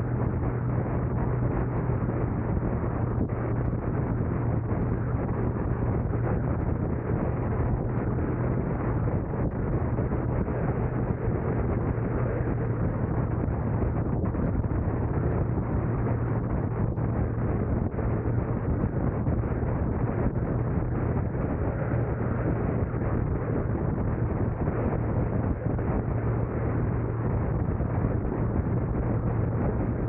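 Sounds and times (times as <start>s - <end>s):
car road noise drone: 0.0s - 30.0s
wind rushing over microphone: 0.0s - 30.0s.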